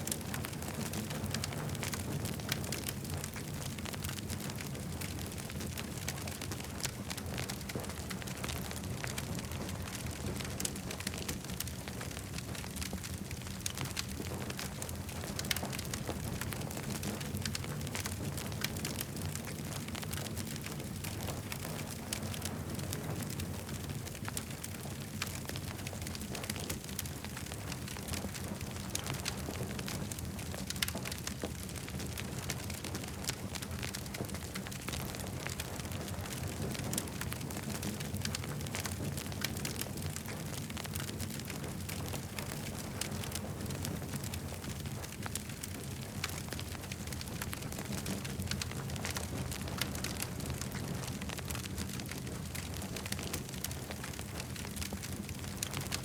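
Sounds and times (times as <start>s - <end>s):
campfire flame rumble: 0.0s - 56.0s
fire crackles and pops: 0.0s - 56.0s.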